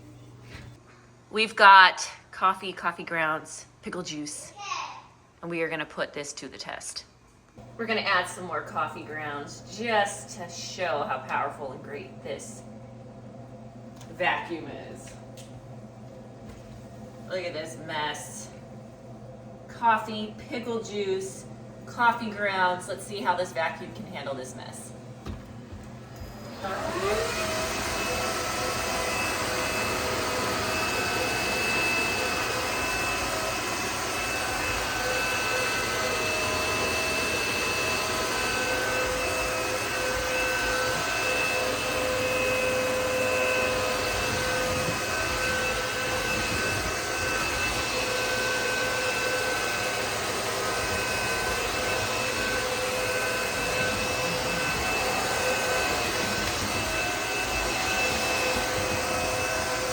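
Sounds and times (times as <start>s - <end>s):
wet-dry vacuum whining: 7.6s - 59.9s.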